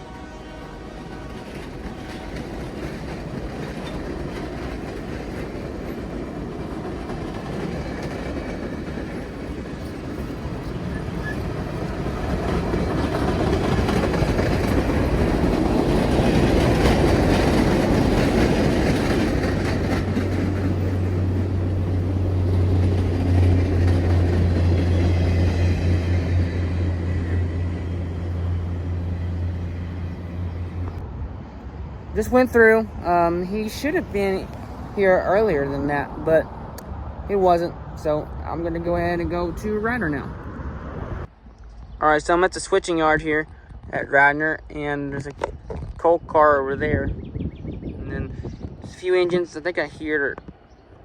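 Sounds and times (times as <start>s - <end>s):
train rumbling past on rails: 0.0s - 42.7s.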